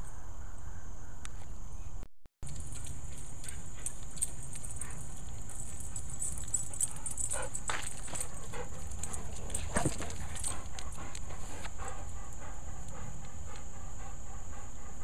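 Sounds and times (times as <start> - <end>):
dog sniffing: 2.7 - 15.0.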